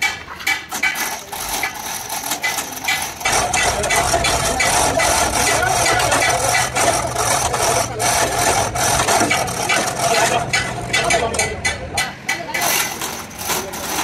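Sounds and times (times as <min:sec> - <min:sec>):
chain hoist rattling and clicking: 0:00.5 - 0:14.0
steady hum: 0:01.2 - 0:14.0.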